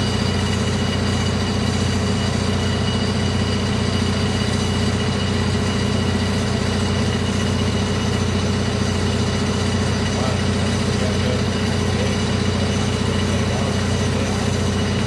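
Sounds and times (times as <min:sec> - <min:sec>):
large engine idling: 0:00.0 - 0:15.0.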